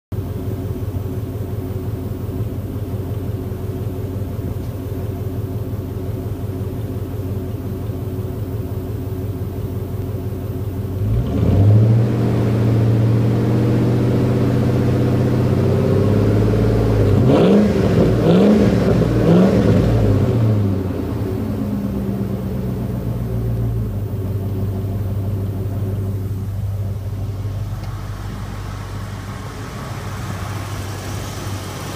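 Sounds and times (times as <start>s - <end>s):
car engine idling and revving: 0.0s - 31.9s.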